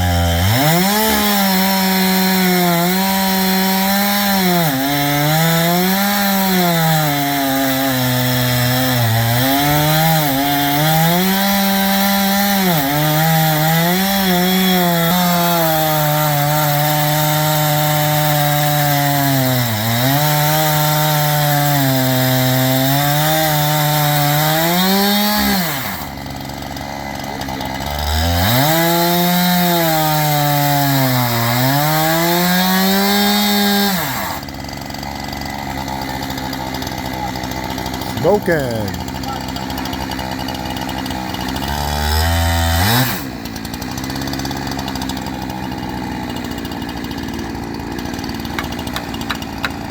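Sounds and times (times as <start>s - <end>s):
chainsaw cutting a log: 0.0s - 49.9s.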